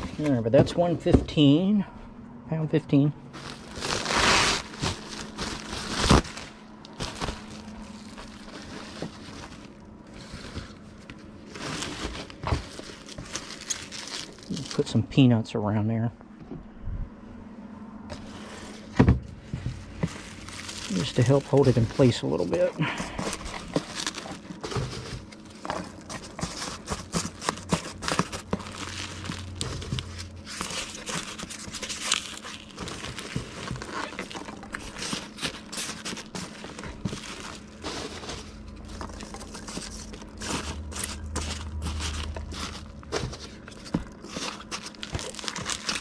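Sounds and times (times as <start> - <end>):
packing peanuts crinkling: 3.3 - 15.3, 19.8 - 46.0.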